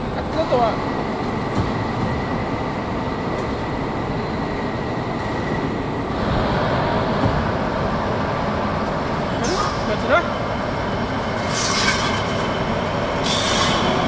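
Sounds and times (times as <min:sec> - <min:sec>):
machine mechanical drone: 0:00.0 - 0:14.0.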